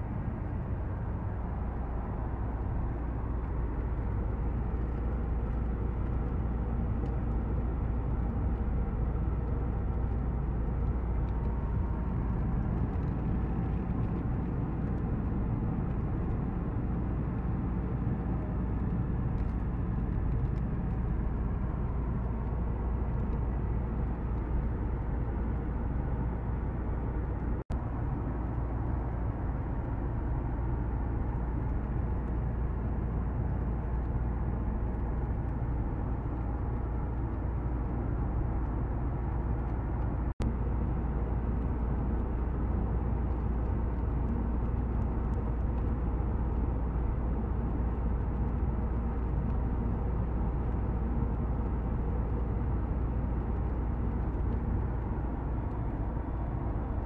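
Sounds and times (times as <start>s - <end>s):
car cabin road noise: 0.0s - 57.0s.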